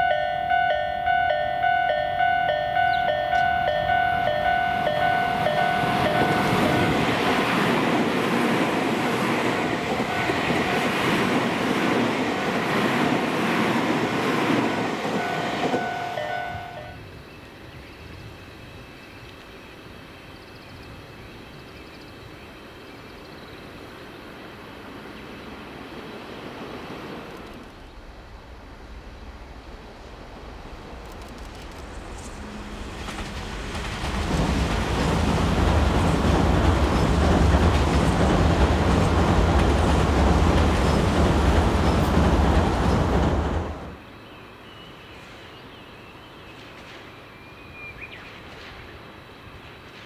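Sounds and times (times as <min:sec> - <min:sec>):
train wheels rushing on rails: 0:00.0 - 0:18.4, 0:24.7 - 0:44.1, 0:46.4 - 0:50.0
distant train approaching: 0:00.0 - 0:50.0.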